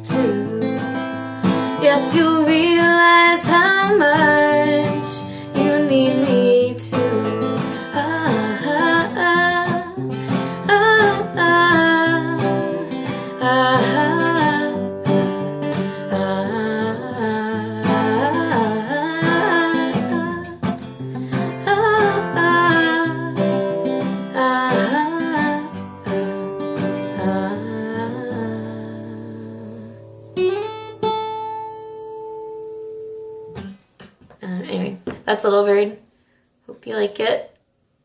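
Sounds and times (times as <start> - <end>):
acoustic guitar picked and strummed: 0.0 - 35.9.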